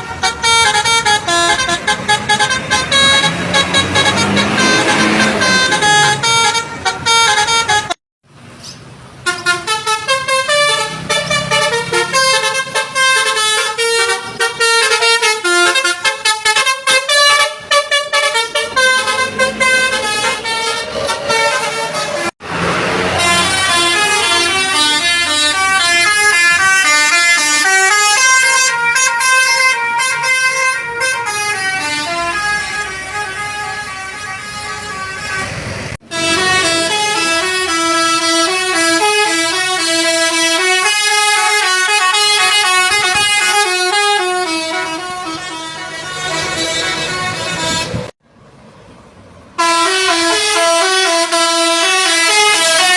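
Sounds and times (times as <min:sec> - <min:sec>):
multi-tone musical horns: 0:00.0 - 0:08.0, 0:09.2 - 0:22.3, 0:23.0 - 0:48.1, 0:49.6 - 0:52.9.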